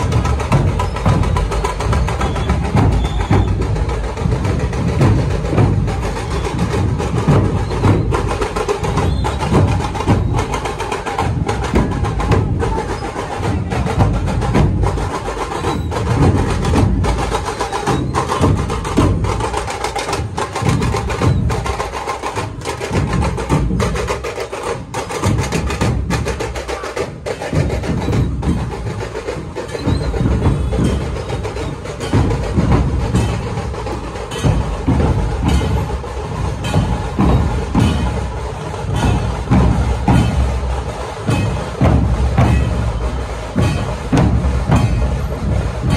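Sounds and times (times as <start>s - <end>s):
barrel drums beating loudly: 0.0s - 45.9s.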